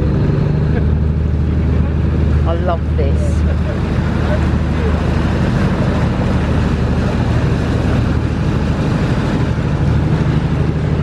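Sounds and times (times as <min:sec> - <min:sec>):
ferry engine drone: 0:00.0 - 0:11.0
water noise: 0:00.0 - 0:11.0
wind: 0:00.0 - 0:11.0.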